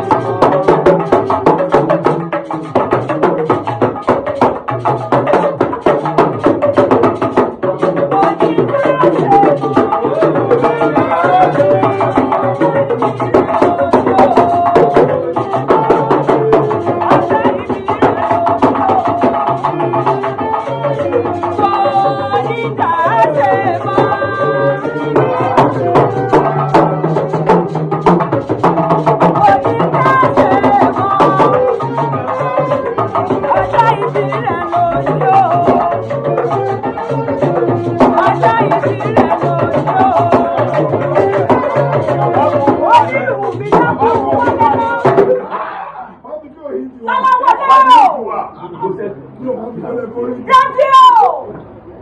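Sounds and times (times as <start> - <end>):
hand drum rhythm: 0.0 - 45.6, 47.1 - 48.1.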